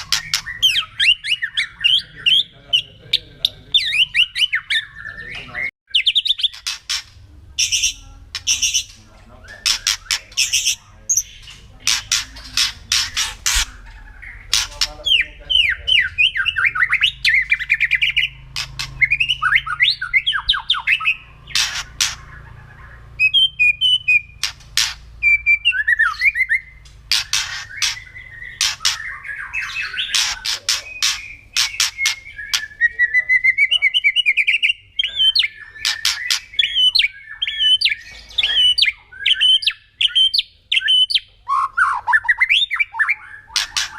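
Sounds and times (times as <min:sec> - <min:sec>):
bird warbled whistling: 0:00.0 - 0:02.5, 0:07.6 - 0:43.9.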